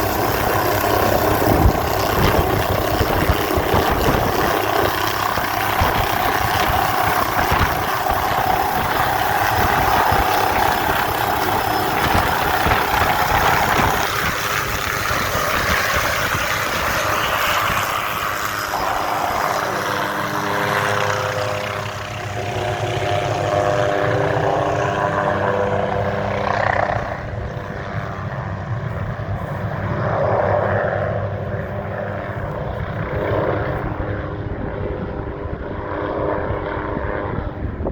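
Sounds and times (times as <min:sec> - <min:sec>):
helicopter turbine and rotor: 0:00.0 - 0:37.9.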